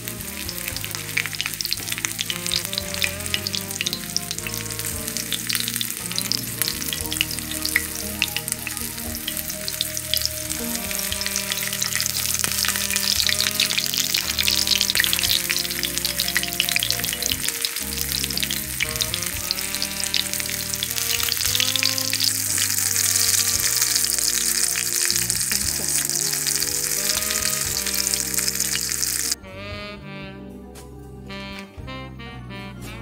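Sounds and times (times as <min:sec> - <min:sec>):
fish frying with crackling pops: 0:00.0 - 0:29.4.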